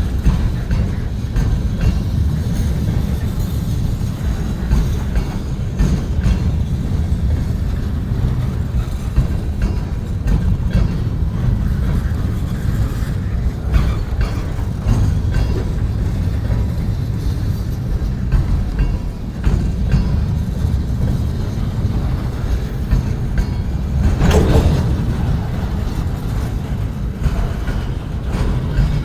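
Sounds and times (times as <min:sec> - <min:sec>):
train rumbling: 0:00.0 - 0:29.0
train wheels clanking: 0:00.0 - 0:29.0.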